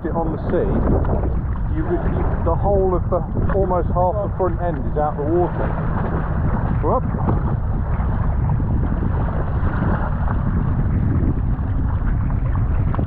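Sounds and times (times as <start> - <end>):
water slapping against hull: 0.0 - 13.0
wind buffeting microphone: 0.0 - 13.0.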